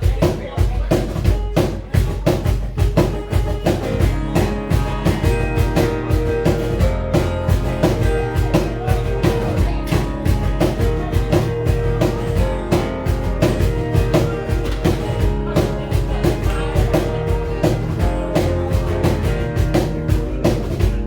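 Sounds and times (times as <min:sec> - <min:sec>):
bass guitar: 0:00.0 - 0:21.0
drum kit beat: 0:00.0 - 0:21.0
electric guitar: 0:03.0 - 0:21.0.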